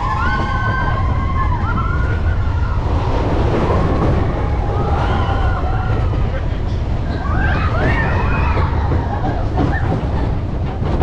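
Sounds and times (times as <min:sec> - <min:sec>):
roller coaster rumbling on track: 0:00.0 - 0:11.0
wind on microphone: 0:00.0 - 0:11.0.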